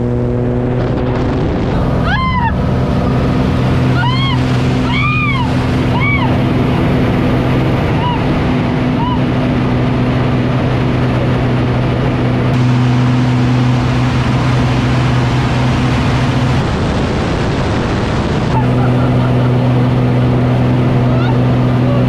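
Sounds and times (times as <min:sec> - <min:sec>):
engine droning: 0:00.0 - 0:22.0
noisy rush: 0:00.0 - 0:22.0.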